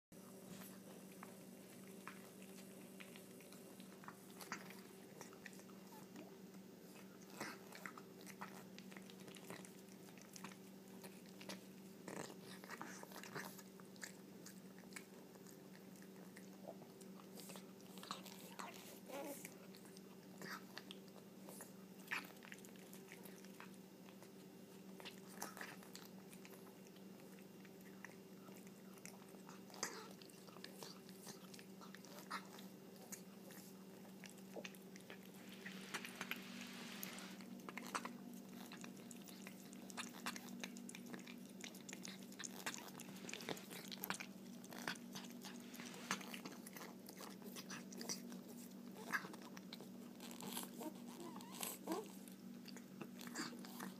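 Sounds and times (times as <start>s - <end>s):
cat eating and chewing: 0.2s - 53.9s
steady low hum: 0.2s - 53.9s.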